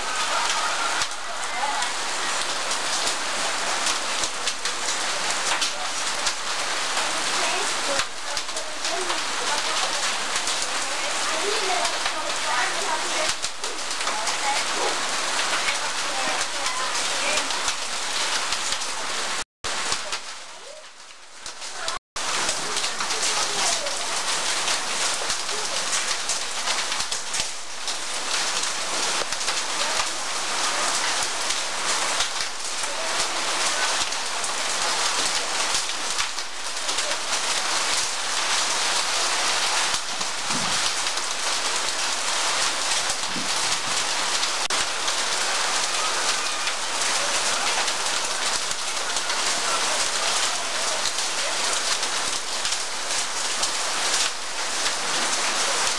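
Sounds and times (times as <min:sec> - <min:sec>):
rain on wet concrete: 0:00.0 - 0:55.9.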